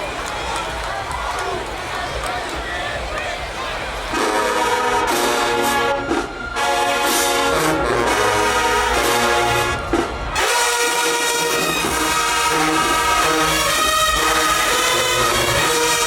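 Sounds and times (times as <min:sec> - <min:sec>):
brass band playing chords: 0:03.1 - 0:16.0.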